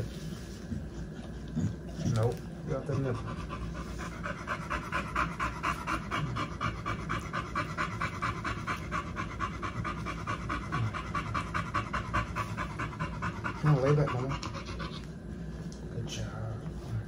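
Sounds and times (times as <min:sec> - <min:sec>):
dog panting: 0:00.6 - 0:15.2.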